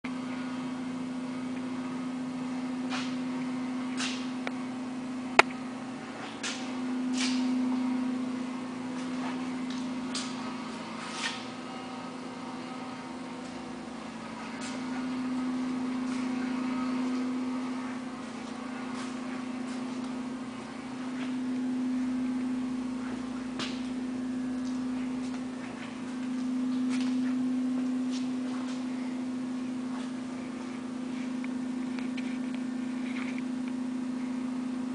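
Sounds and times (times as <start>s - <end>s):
low hum: 0.1s - 34.9s.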